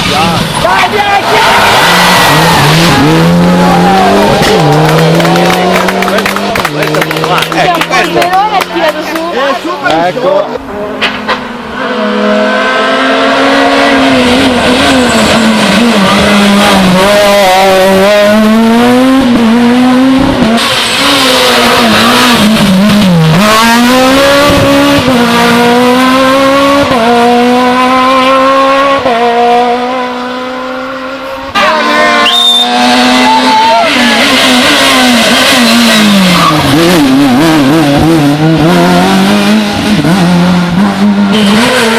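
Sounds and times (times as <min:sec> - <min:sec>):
rally car engine at high revs: 0:00.0 - 0:41.9.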